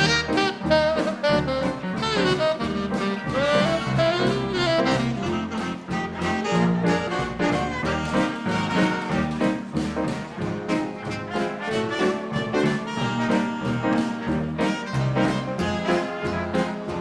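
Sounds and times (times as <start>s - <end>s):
big band swing music: 0.0s - 17.0s
trombones and trumpets: 0.0s - 17.0s.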